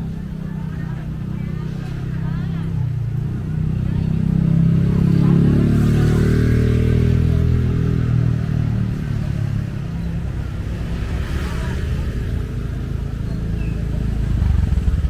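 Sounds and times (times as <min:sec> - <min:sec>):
motor vehicle engine running: 0:00.0 - 0:15.0.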